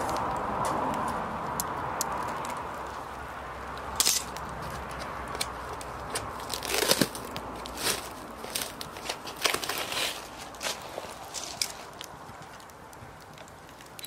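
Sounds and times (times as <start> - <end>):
charcoal fire crackling and popping: 0.0 - 14.0.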